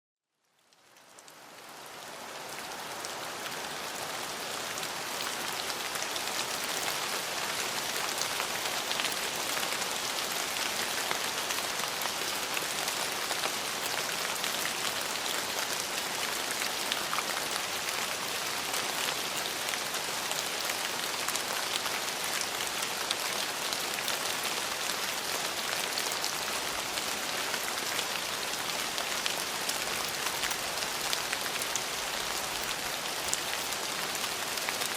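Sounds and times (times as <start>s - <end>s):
rain on hard surfaces: 0.3s - 34.9s.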